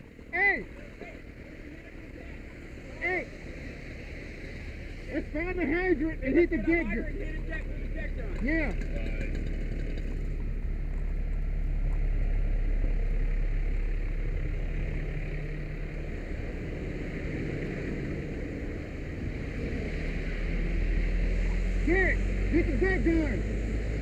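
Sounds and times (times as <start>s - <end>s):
fire engine idling: 0.0s - 19.3s.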